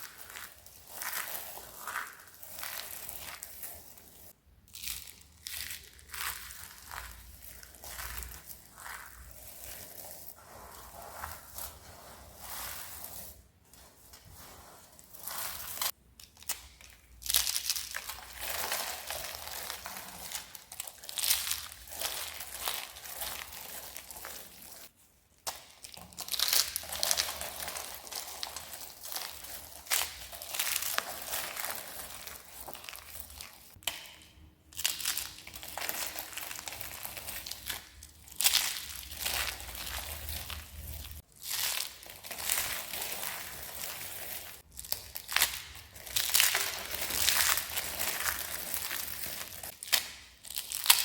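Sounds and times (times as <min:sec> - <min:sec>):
dry soap crackling crunches: 0:00.0 - 0:51.0.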